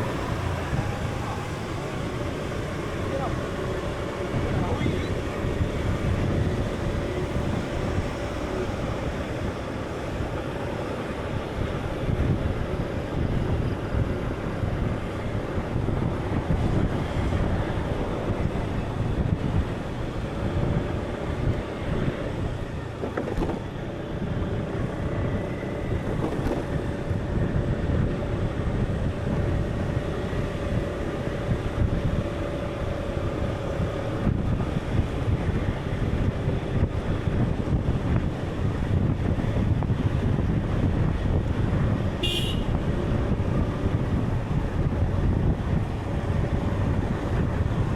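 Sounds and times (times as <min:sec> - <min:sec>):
deep rumble of wind: 0:00.0 - 0:47.9.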